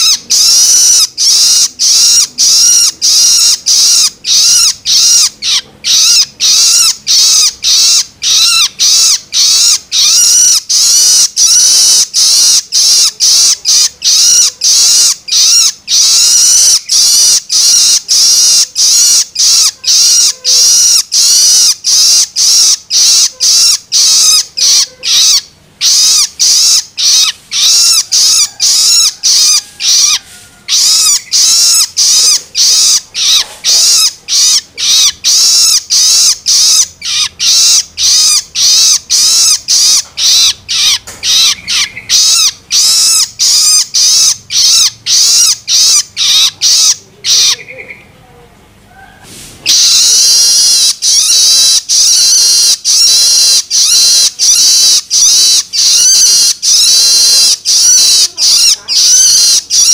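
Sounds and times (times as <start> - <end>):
young shrike begging calls: 0.0 - 48.2, 48.9 - 59.9.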